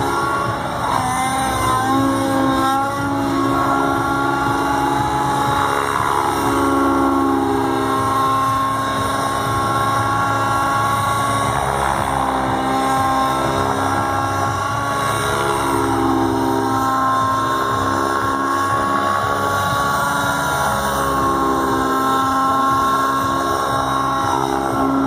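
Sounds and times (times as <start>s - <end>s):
model helicopter engine and rotors whining: 0.0s - 25.0s.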